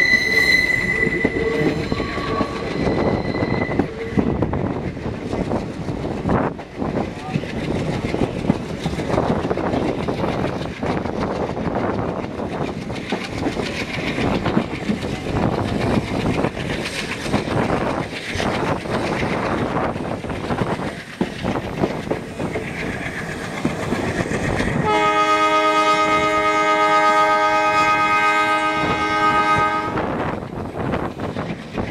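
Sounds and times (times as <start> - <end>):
train wheels clattering over rail joints: 1.1 - 31.9.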